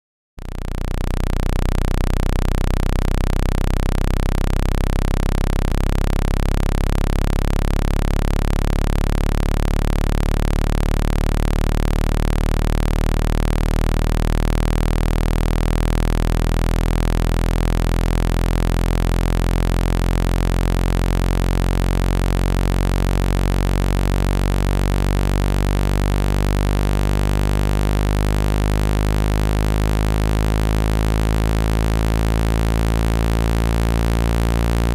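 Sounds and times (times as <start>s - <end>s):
low electronic buzzing tone: 0.4s - 34.9s.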